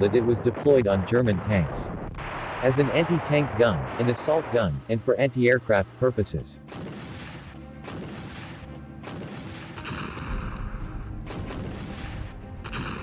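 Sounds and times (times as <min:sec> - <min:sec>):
cannon shots: 0:00.0 - 0:04.7, 0:06.7 - 0:13.0.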